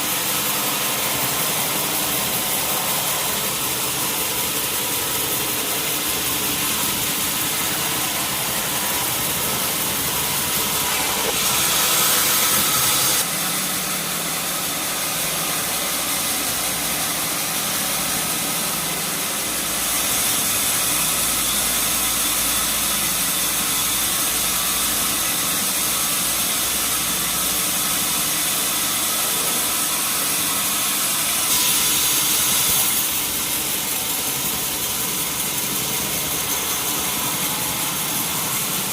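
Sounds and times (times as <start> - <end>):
band saw running: 0.0 - 38.9.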